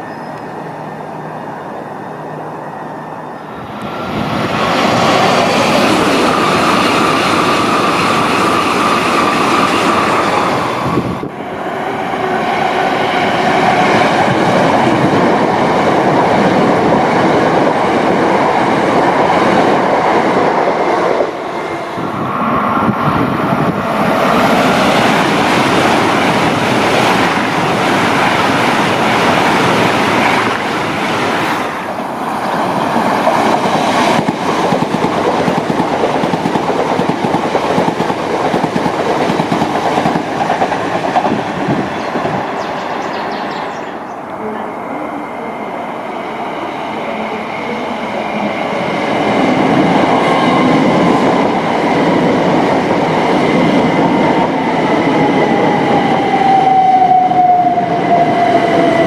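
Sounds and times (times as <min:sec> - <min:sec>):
trains rushing past on rails: 0:00.0 - 0:59.0.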